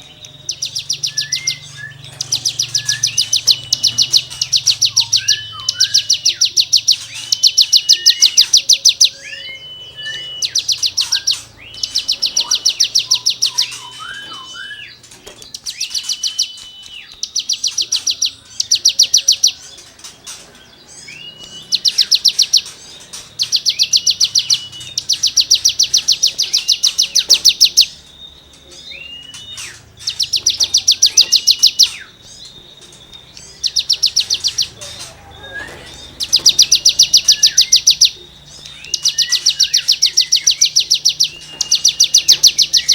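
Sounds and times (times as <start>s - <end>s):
bird scraping trills: 0.0s - 28.1s, 28.7s - 42.9s.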